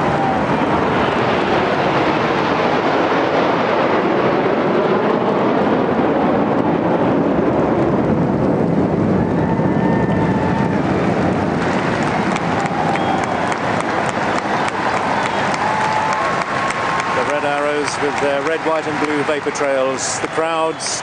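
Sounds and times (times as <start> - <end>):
jet engine roar overhead: 0.0 - 21.0.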